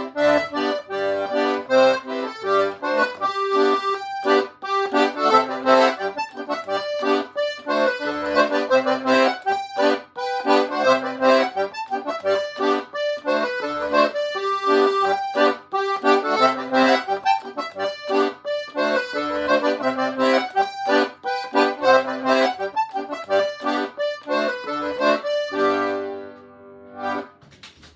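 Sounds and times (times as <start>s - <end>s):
button accordion playing: 0.0s - 27.4s.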